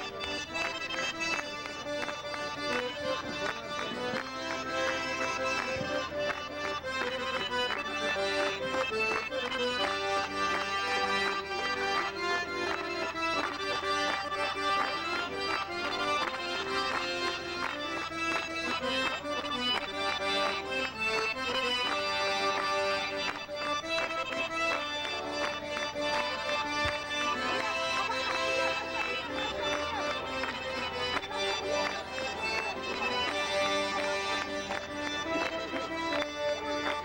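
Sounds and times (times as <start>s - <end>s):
accordion playing folk tune: 0.0s - 37.0s.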